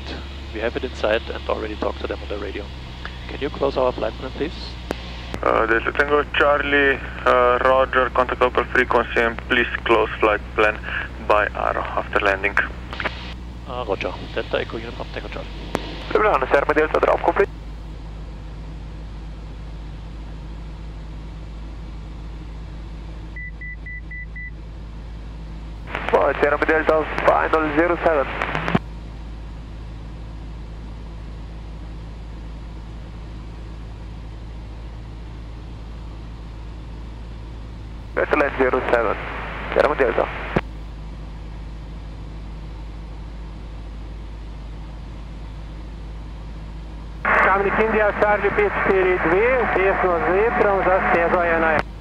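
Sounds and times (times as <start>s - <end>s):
plane engine and propeller droning: 0.0s - 52.0s.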